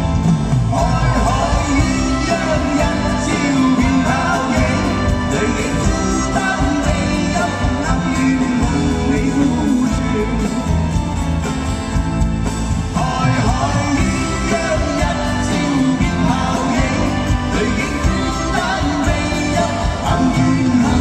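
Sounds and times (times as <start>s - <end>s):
men singing with band: 0.4s - 11.0s, 12.8s - 21.0s.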